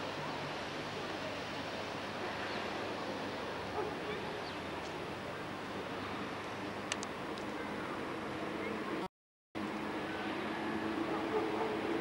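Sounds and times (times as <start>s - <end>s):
city background hiss: 0.0s - 12.0s.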